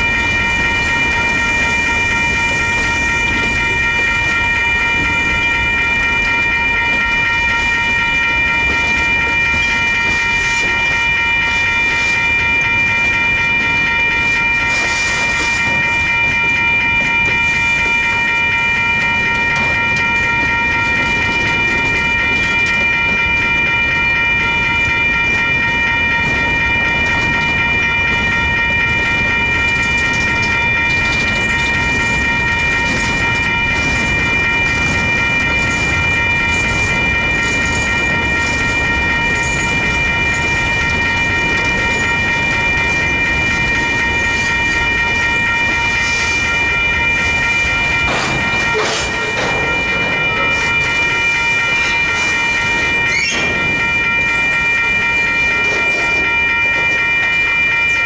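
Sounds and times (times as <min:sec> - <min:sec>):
crossing warning bell ringing: 0:00.0 - 0:58.0
freight train rumble and wheel clatter: 0:00.0 - 0:58.0.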